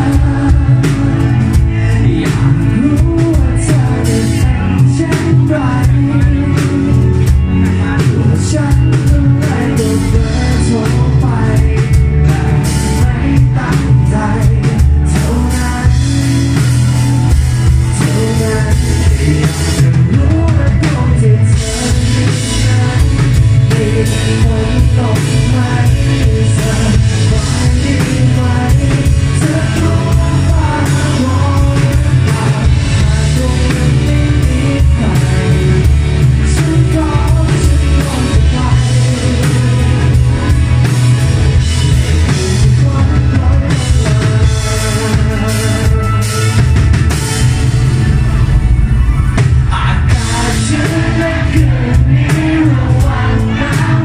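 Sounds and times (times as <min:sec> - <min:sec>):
man singing: 0:00.0 - 0:46.8, 0:49.6 - 0:54.0
bass guitar: 0:00.0 - 0:54.0
drum kit: 0:00.0 - 0:54.0
electric guitars: 0:00.0 - 0:54.0.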